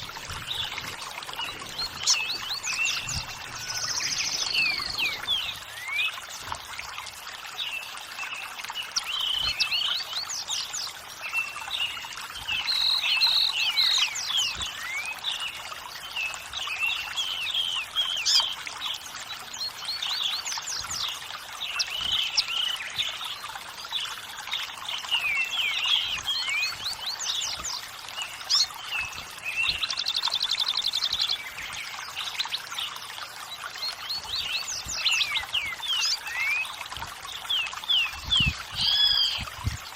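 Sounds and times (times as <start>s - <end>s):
running water: 0.0s - 39.9s
songbirds chirping and singing: 0.0s - 39.9s.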